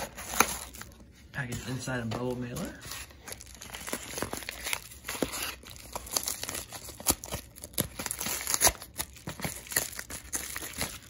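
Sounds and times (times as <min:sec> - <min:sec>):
padded mailer tearing and crinkling: 0:00.0 - 0:11.0.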